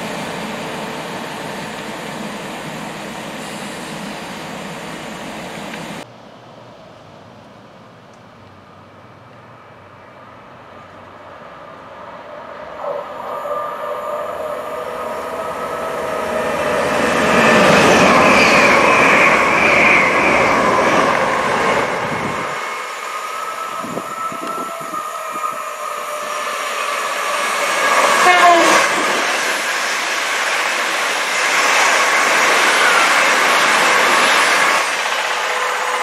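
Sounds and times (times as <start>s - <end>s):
train passing at speed: 0.0s - 8.0s, 8.6s - 36.0s.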